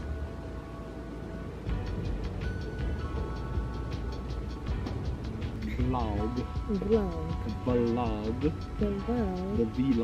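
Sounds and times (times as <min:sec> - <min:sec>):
held notes over ticking beat: 0:01.7 - 0:10.0.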